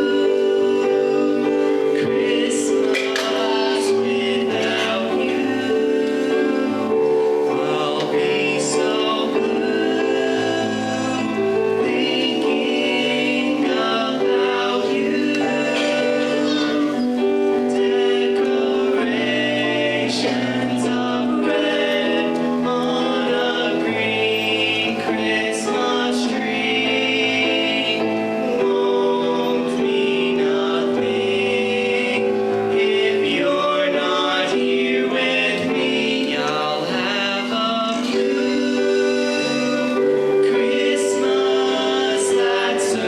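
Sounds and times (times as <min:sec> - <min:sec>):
choir singing held chords: 0:00.0 - 0:43.0.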